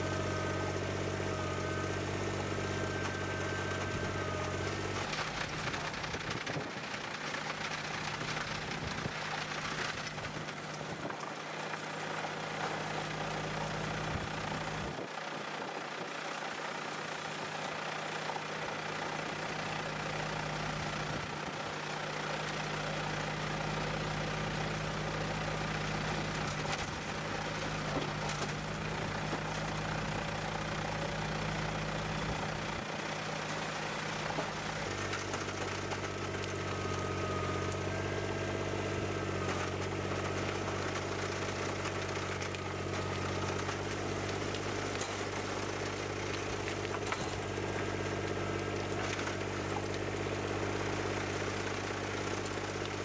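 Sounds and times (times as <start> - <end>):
tractor diesel engine running: 0.0 - 53.0
soil and stones rattling: 3.8 - 16.2, 17.9 - 53.0.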